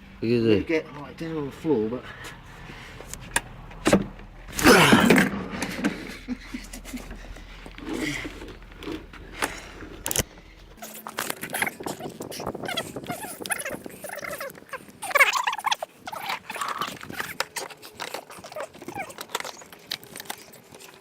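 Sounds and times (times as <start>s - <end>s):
rough scraping: 1.9s - 21.0s.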